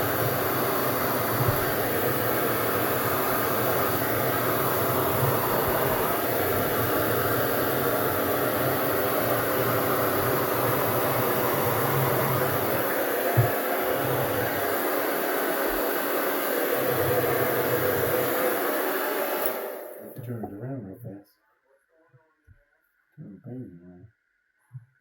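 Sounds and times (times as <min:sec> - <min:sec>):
hair dryer running: 0:00.0 - 0:20.2.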